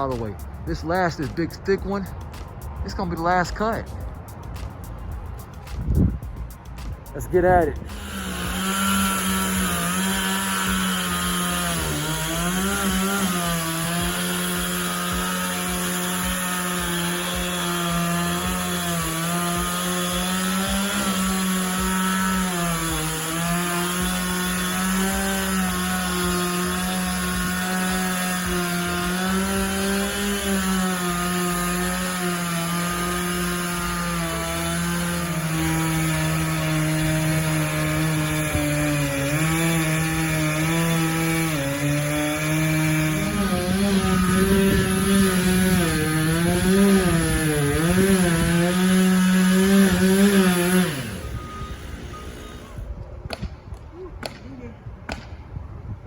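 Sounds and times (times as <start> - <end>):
chainsaw cutting wood: 0.0 - 53.5.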